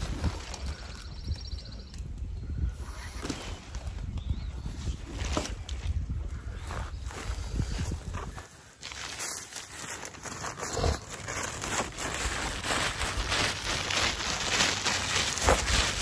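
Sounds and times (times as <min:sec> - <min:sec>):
rustling and crinkling: 0:02.8 - 0:16.0.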